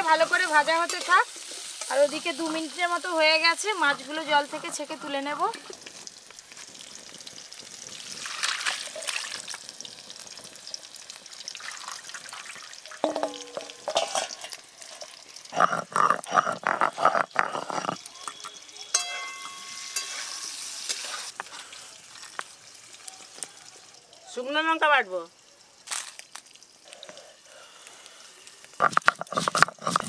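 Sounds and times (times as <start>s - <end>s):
vegetables sizzling in oil: 0.0s - 30.0s
water pouring and splashing: 0.0s - 30.0s.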